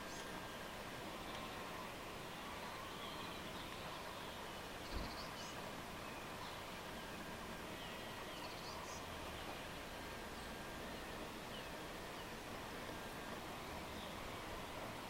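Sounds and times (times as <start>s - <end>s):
small birds chirping: 0.0s - 15.0s
steady soft hiss: 0.0s - 15.0s.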